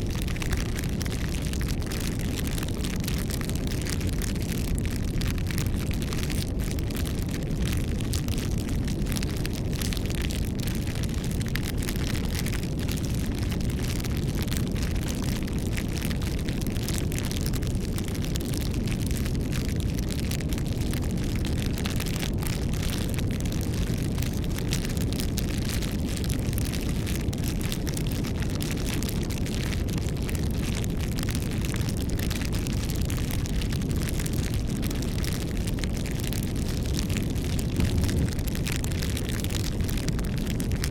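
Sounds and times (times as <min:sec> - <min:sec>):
bonfire flames rumbling: 0:00.0 - 0:40.9
burning wood crackling and popping: 0:00.0 - 0:40.9.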